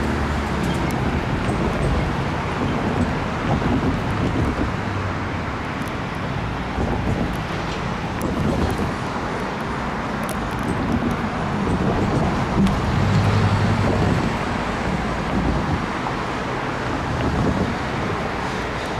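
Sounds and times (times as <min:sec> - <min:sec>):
passing vehicles rumbling: 0:00.0 - 0:18.9.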